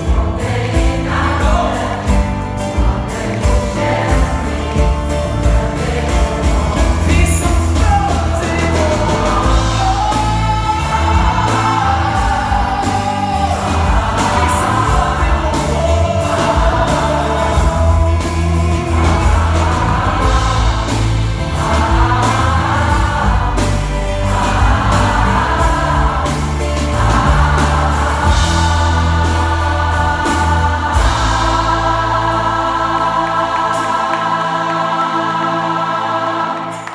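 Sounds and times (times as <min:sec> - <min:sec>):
drums: 0:00.0 - 0:36.9
mass choir singing: 0:00.0 - 0:36.9
piano: 0:00.0 - 0:36.9.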